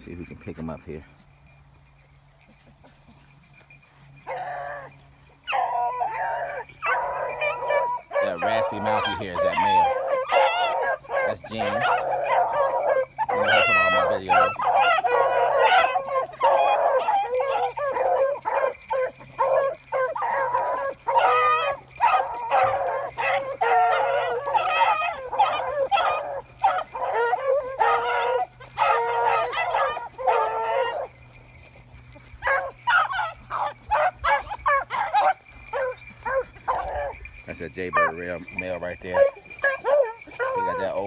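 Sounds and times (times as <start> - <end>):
hounds baying: 0.0 - 41.0.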